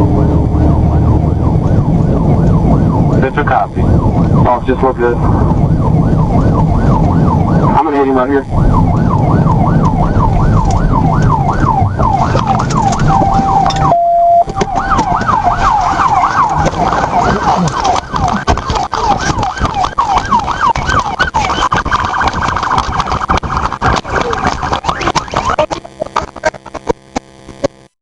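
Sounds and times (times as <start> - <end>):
police siren wailing: 0.0 - 26.0
car engine: 0.0 - 27.6.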